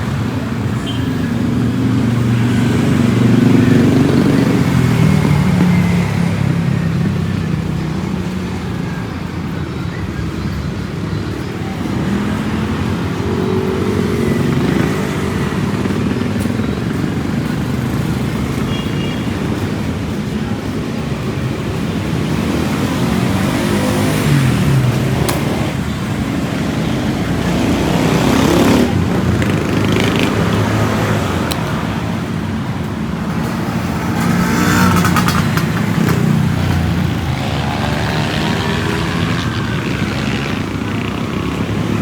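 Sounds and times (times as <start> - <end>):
vehicles driving past: 0.0 - 42.0.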